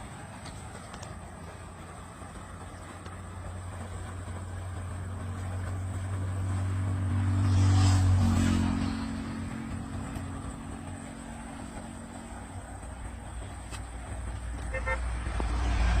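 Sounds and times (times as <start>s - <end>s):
engine passing by: 0.0s - 16.0s.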